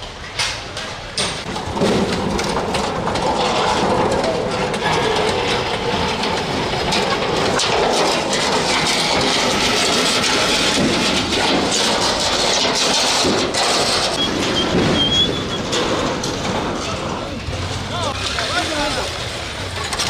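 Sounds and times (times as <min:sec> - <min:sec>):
metal sheets scraping over rubble: 0:00.7 - 0:20.0.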